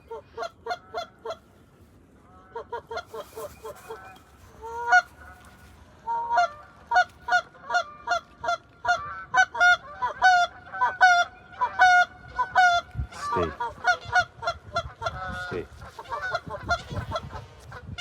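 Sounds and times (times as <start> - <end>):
geese honking: 0.0 - 1.5, 2.2 - 18.0.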